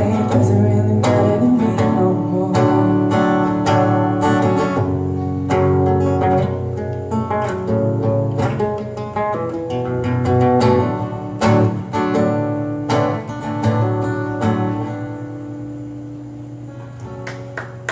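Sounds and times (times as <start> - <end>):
acoustic guitar strumming: 0.0 - 17.9.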